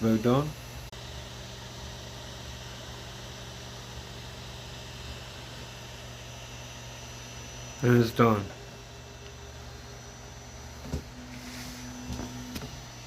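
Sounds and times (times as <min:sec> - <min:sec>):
printer fans and motors whirring: 0:00.0 - 0:13.0.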